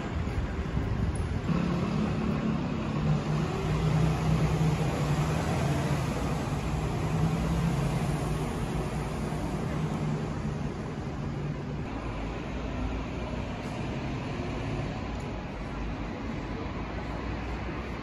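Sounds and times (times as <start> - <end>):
road noise: 0.0 - 18.0
vehicle engine humming: 0.0 - 18.0.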